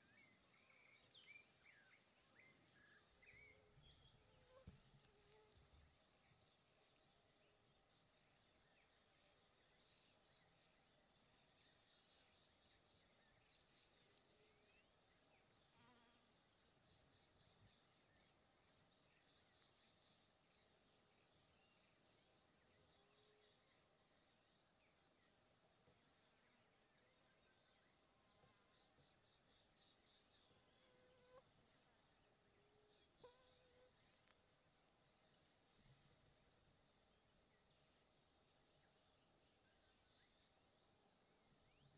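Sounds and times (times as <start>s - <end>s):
insect chirps: 0.0s - 41.9s.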